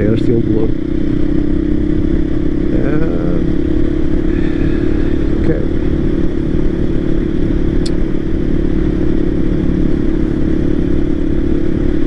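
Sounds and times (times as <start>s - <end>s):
motorcycle engine running: 0.0s - 12.0s
road and wind rumble: 0.0s - 12.0s.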